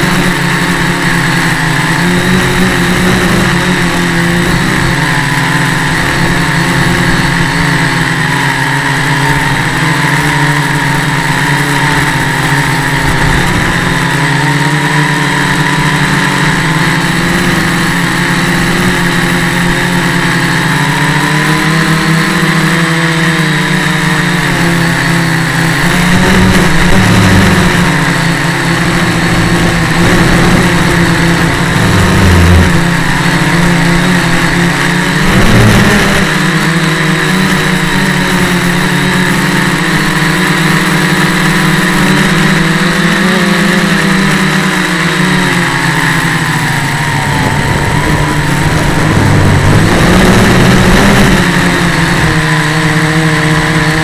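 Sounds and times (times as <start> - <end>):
quadcopter motors whining: 0.0 - 54.0.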